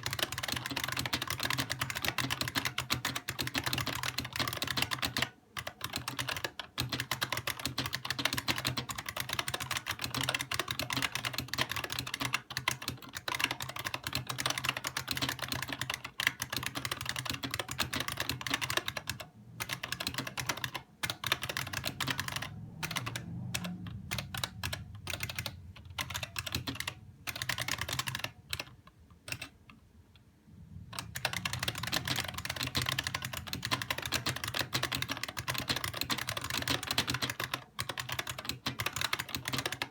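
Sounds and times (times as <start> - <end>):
fast typing on clicky keyboard: 0.0 - 29.7, 30.9 - 39.9.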